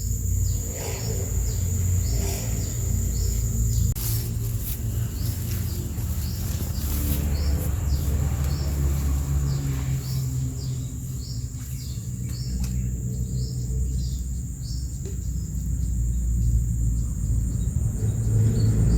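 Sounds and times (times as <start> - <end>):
continuous low rumble: 0.0 - 18.9
high insect drone: 0.0 - 18.9.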